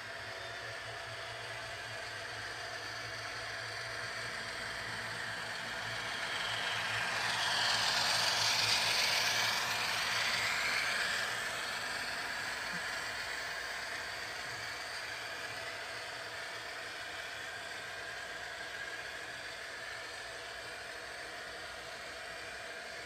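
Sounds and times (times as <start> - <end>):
steady low hum: 0.0 - 23.0
train passing: 0.0 - 23.0.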